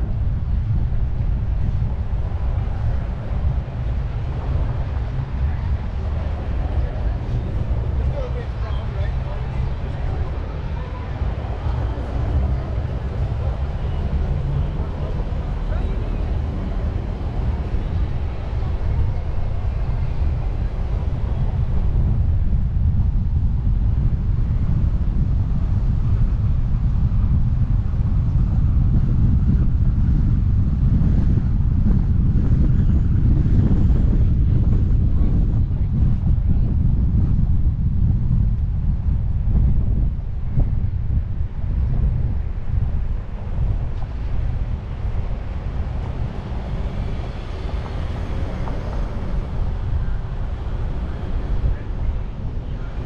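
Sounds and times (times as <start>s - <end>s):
car road noise: 0.0s - 53.0s
traffic noise: 0.0s - 53.0s
wind buffeting microphone: 0.0s - 53.0s.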